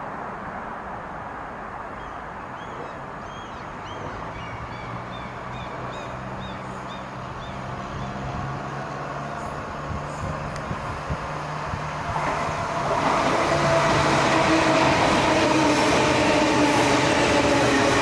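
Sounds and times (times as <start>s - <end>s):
station and traffic rumble: 0.0s - 18.0s
train electric hum: 0.0s - 18.0s.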